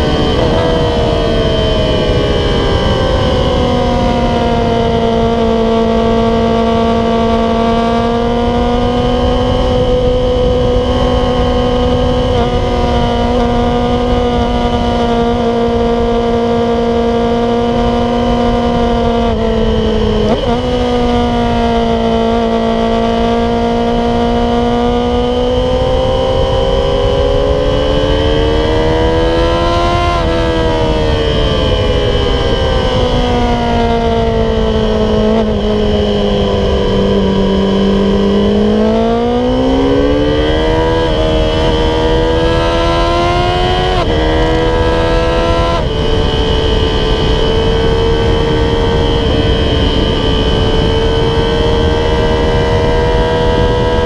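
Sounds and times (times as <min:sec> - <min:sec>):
motorcycle engine at high revs: 0:00.0 - 0:54.0
wind rush on microphone: 0:00.0 - 0:54.0.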